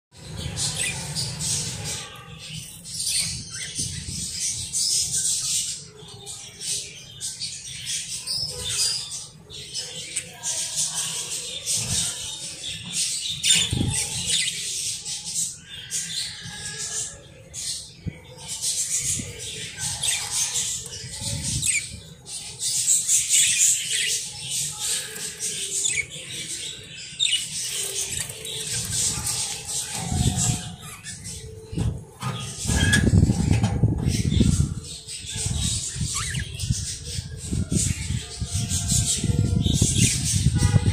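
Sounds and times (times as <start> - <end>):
budgerigars chattering: 7.7 - 40.8.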